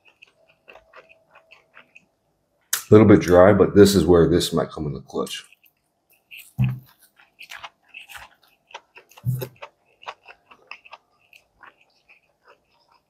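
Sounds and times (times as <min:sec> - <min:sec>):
biting and chewing food: 0:00.0 - 0:02.9, 0:05.3 - 0:13.0.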